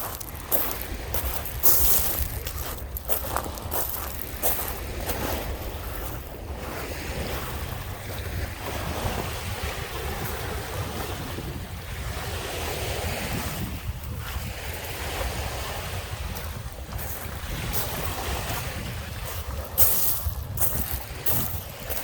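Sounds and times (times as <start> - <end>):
waves washing onto shore: 0.0 - 22.0
wind rumbling on microphone: 0.0 - 22.0.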